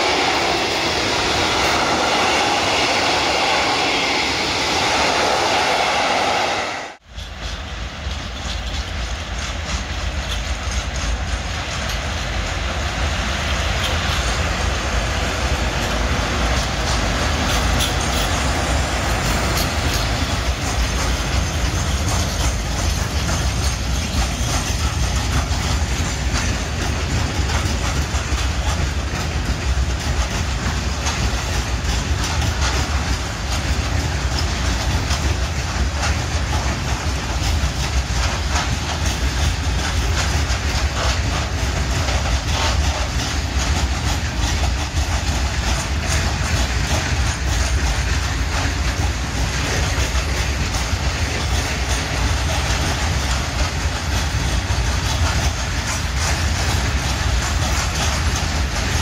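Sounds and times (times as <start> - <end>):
freight train rolling past: 0.0 - 59.0
low train rumble: 0.0 - 59.0
train wheels clicking over rail joints: 0.0 - 59.0.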